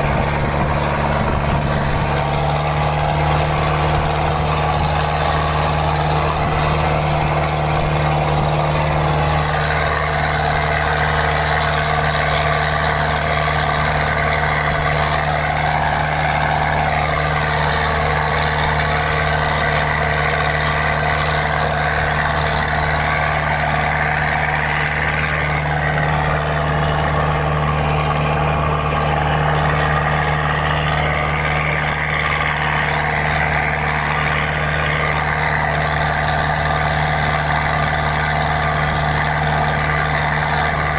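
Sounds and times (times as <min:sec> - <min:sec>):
boat diesel engine running: 0:00.0 - 0:40.9.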